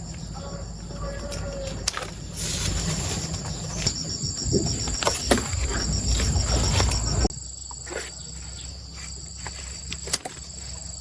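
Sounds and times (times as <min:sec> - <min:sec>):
insect high-pitched trill: 0:00.0 - 0:11.0
pulsing insect chirp: 0:00.0 - 0:11.0.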